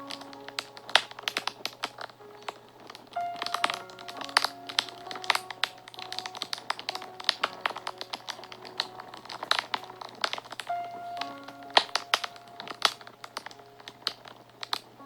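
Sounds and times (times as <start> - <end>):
soft music with held notes: 0.0 - 15.0
wood fire crackling: 0.0 - 15.0.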